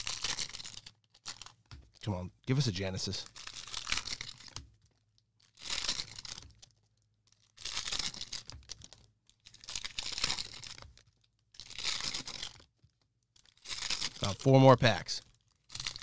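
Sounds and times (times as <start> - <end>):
cellophane packs tearing and crinkling: 0.0 - 2.1, 3.2 - 6.7, 7.3 - 16.0.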